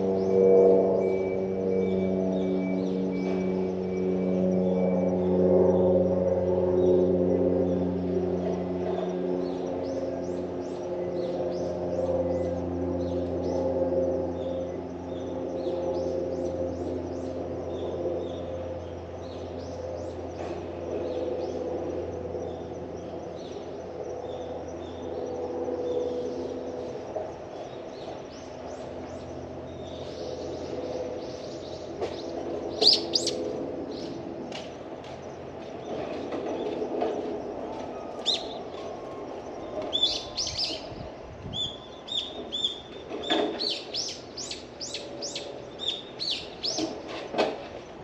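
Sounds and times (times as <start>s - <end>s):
steady low hum: 0.0s - 48.0s
small birds chirping: 6.8s - 47.2s.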